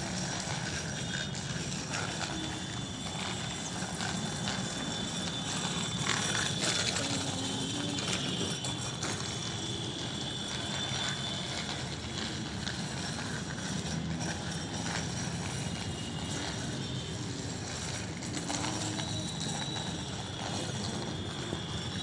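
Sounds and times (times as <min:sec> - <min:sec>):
bicycle mechanical clicking: 0:00.0 - 0:22.0
bicycle rolling over tiles: 0:00.0 - 0:22.0.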